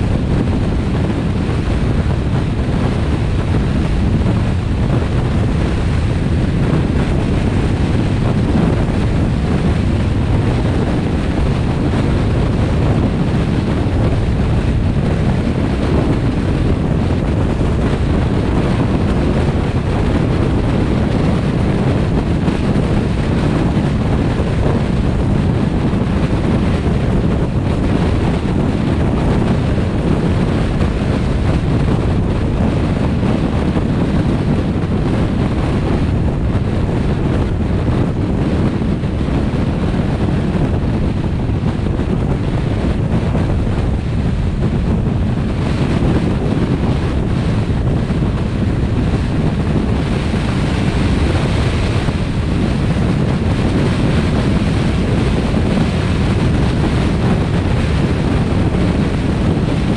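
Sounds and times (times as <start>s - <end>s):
car road noise: 0.0s - 58.0s
wind buffeting microphone: 0.0s - 59.9s.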